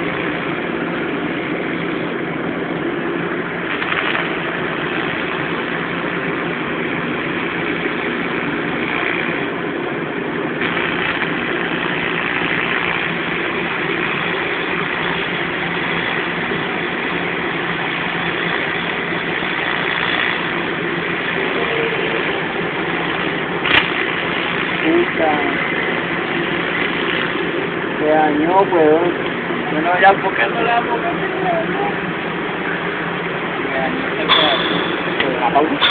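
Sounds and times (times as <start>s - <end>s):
welding equipment hum and hiss: 0.0s - 35.9s.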